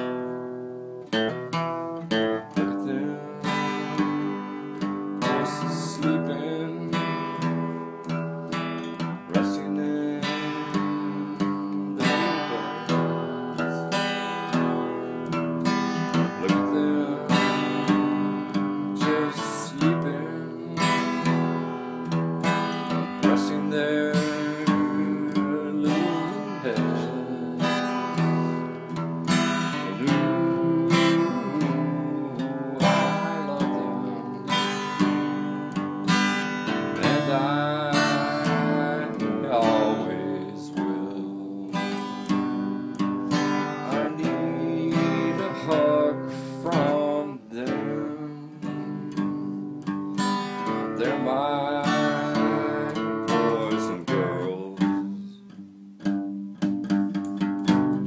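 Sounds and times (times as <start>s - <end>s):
acoustic guitar strumming: 0.0s - 58.0s
man singing: 1.2s - 55.5s.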